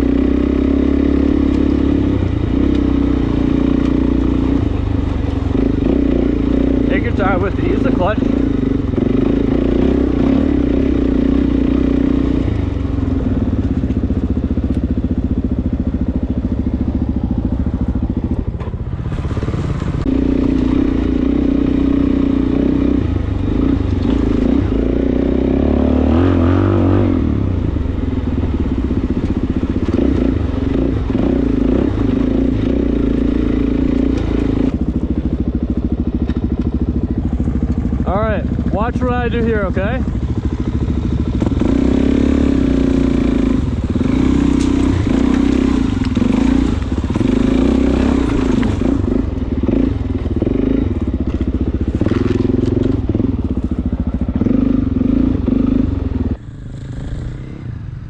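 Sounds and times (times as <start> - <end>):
dirt bike engine under throttle: 0.0 - 58.0.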